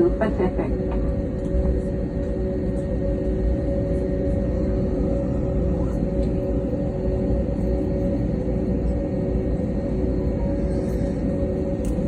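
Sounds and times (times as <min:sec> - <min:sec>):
airliner cabin rumble: 0:00.0 - 0:12.0
jet engines droning at idle: 0:00.0 - 0:12.0.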